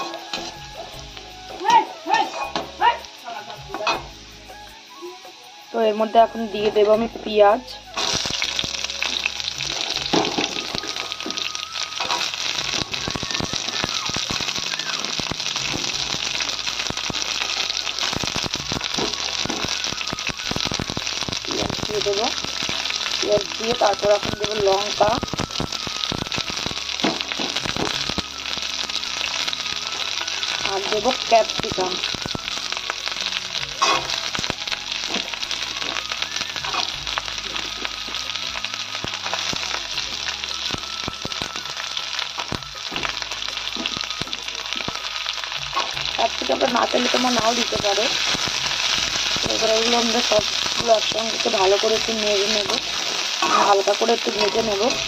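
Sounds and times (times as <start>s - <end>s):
onions frying in hot oil: 0.0s - 55.0s.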